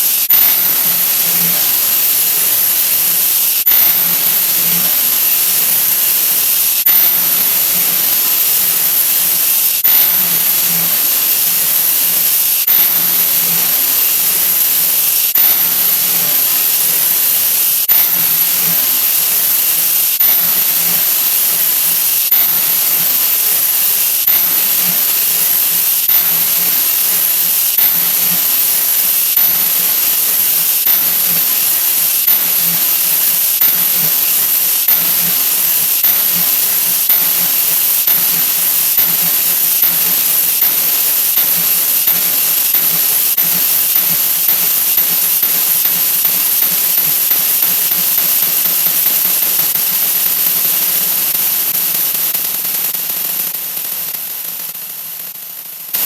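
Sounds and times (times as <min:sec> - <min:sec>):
loud steady hiss: 0:00.0 - 0:56.0.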